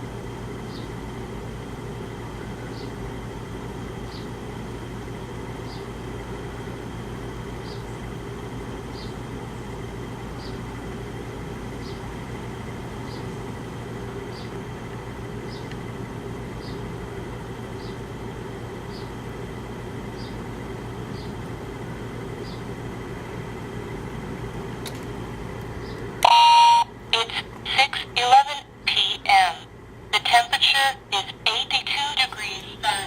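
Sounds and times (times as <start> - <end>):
air conditioner humming: 0.0 - 33.0.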